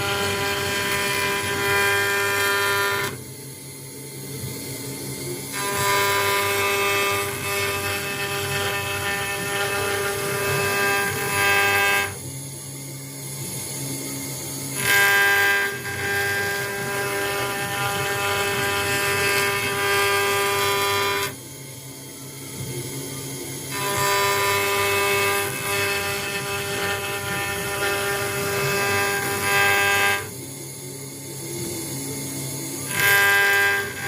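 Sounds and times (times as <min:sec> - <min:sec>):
cnc router spindle whine: 0:00.0 - 0:34.0.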